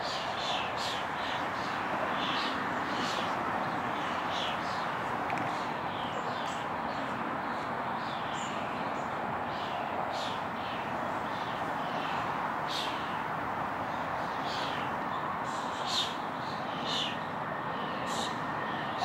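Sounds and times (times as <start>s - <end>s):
distant city traffic hum: 0.0s - 19.0s.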